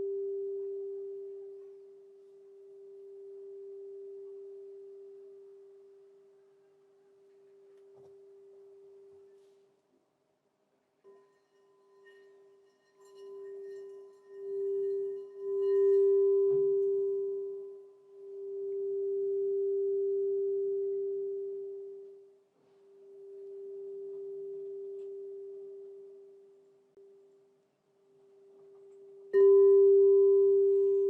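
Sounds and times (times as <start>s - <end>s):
crystal singing bowl ringing: 0.0s - 6.4s, 11.0s - 27.2s, 28.5s - 31.0s.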